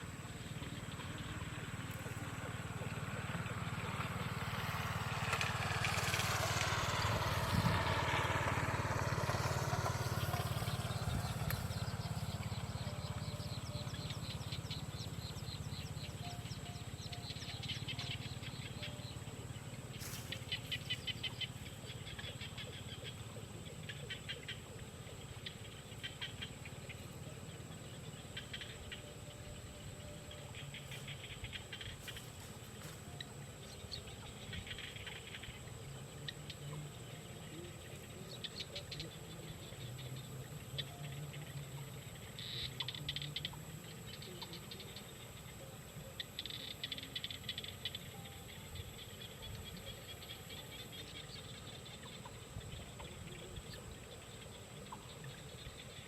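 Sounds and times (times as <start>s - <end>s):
faint high whine: 0.0s - 56.0s
small birds chirping: 0.0s - 56.0s.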